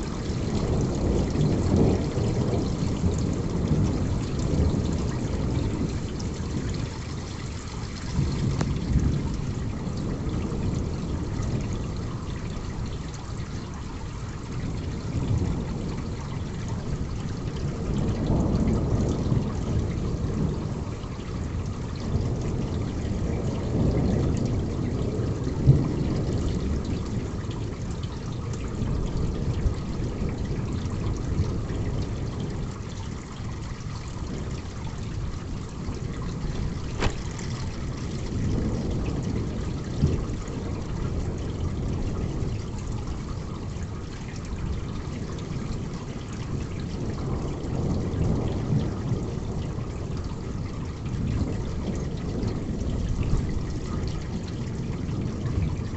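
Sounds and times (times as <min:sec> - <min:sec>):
heavy rain with pouring water: 0:00.0 - 0:55.9.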